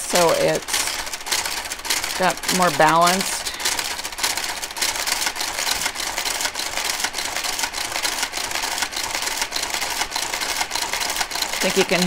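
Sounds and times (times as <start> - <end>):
knitting machine carriage whirring: 0.0 - 12.0.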